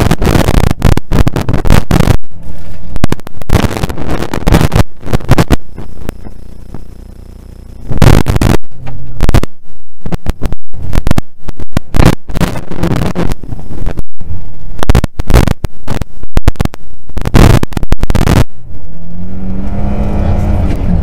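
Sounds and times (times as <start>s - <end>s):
distorted rally car engine: 0.0s - 21.0s.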